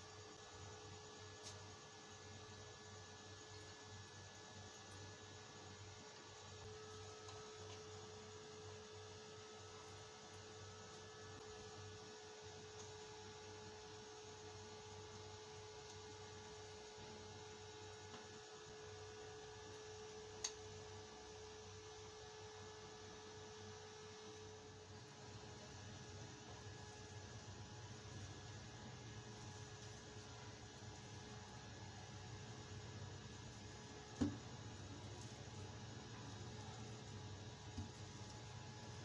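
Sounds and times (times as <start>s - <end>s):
faint electrical hum: 0.0s - 39.0s.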